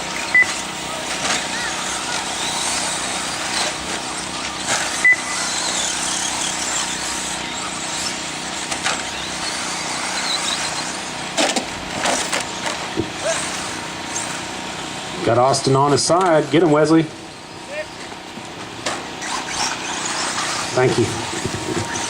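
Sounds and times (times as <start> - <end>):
rc trucks motor whine: 0.0 - 22.0.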